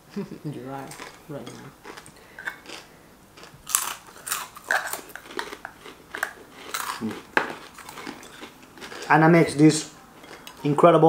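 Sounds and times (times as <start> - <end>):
person chewing crunchy food: 0.8 - 9.2, 9.8 - 10.8.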